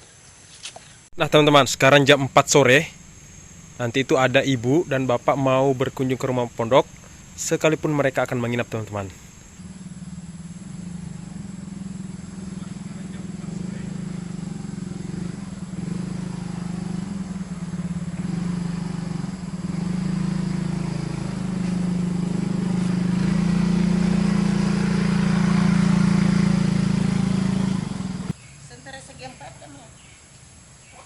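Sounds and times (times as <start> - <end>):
small engine running: 1.6 - 28.3.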